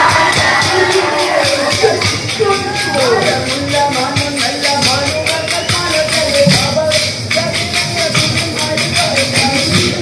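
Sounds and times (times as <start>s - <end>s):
singing: 0.0s - 10.0s.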